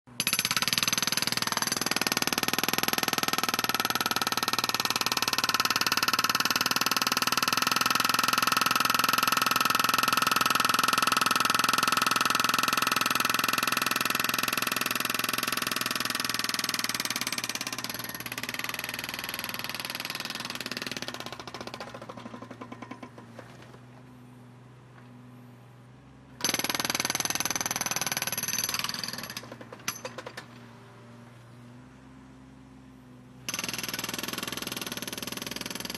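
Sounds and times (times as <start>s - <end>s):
jackhammer hammering: 0.1s - 23.8s, 26.4s - 30.6s, 33.5s - 35.9s.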